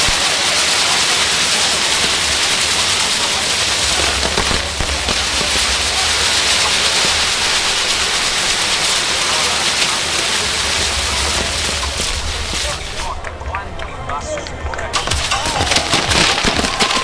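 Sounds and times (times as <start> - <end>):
fine crackle of fireworks: 0.0 - 17.0
fireworks fountains hissing: 0.0 - 17.0.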